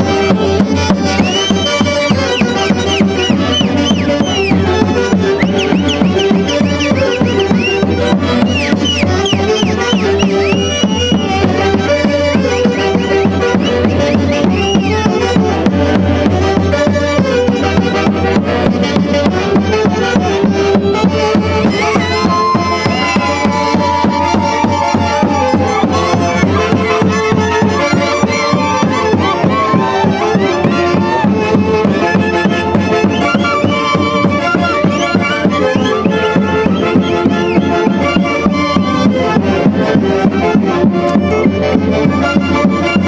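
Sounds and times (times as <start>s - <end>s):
orchestra playing instrumental piece: 0.0s - 43.0s.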